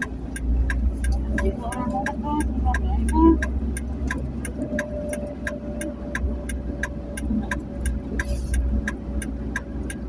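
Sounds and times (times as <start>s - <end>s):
engine and road rumble: 0.0s - 10.0s
turn signal ticking: 0.0s - 10.0s.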